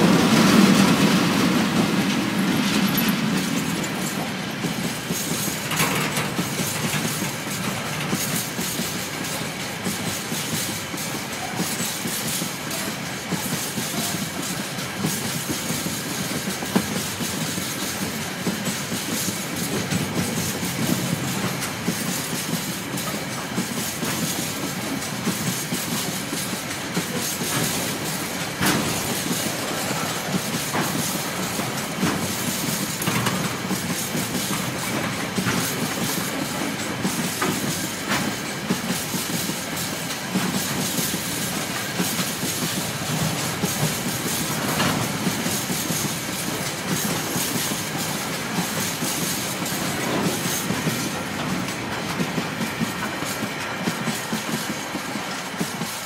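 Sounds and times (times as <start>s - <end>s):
steel wheels rumbling on rail: 0.0s - 56.0s
wheels clacking over rail joints: 0.0s - 56.0s.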